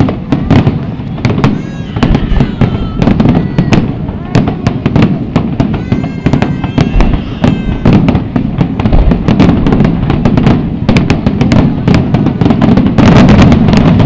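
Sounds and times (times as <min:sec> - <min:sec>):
firework whistle: 0:00.0 - 0:14.0
fireworks bangs and crackles: 0:00.0 - 0:14.0.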